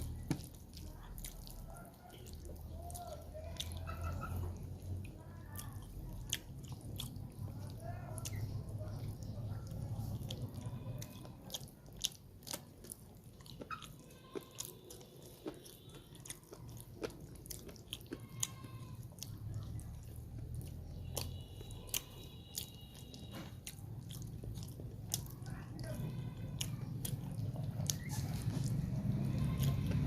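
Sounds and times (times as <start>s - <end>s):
close chewing and crunching: 0.0s - 30.0s.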